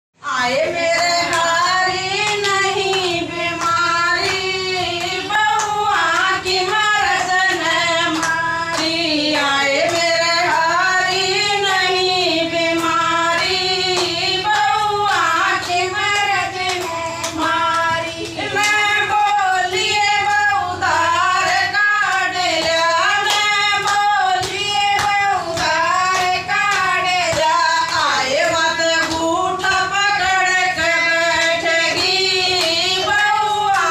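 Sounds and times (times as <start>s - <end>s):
women singing devotional song: 0.2s - 33.9s
hand clapping: 0.5s - 33.9s.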